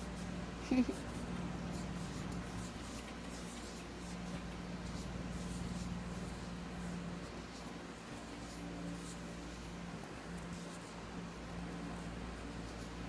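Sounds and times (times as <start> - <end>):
light rustling and ticks: 0.0 - 13.0.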